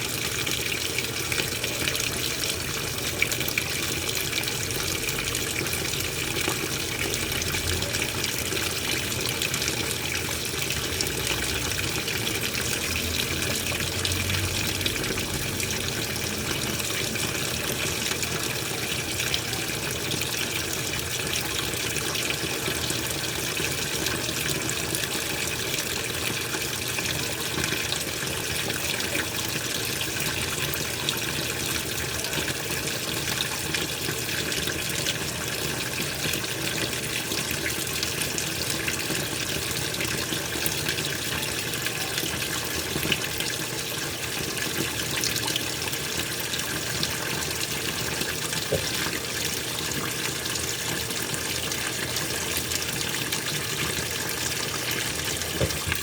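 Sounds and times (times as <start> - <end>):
water rushing into washing machine: 0.0 - 56.0.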